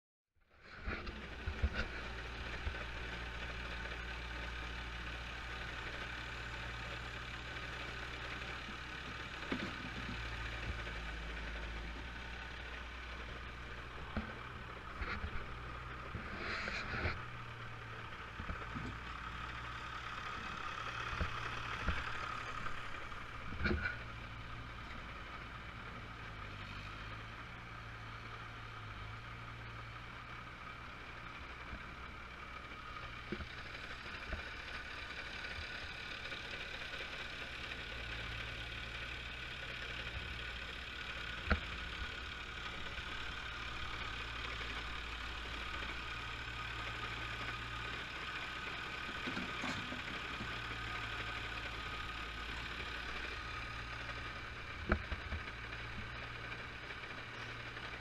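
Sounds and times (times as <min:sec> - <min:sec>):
diesel engines running: 0:00.5 - 0:58.0.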